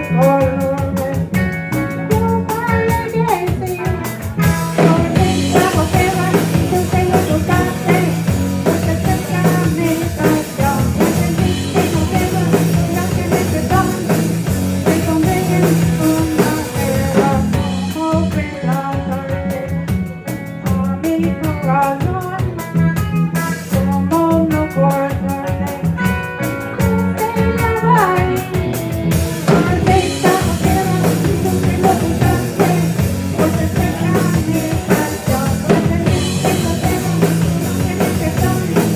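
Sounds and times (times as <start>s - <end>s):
electric guitar: 0.0s - 38.9s
rock band playing: 0.0s - 38.9s.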